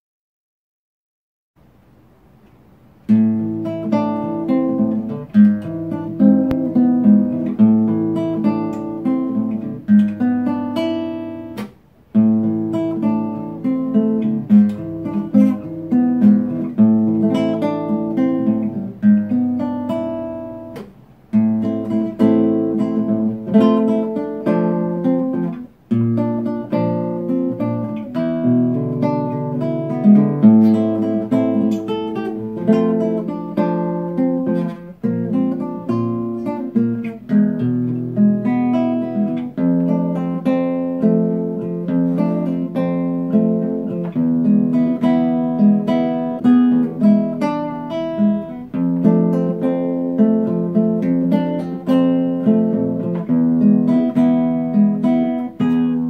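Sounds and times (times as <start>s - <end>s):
classical guitar fingerpicked: 2.4s - 56.0s.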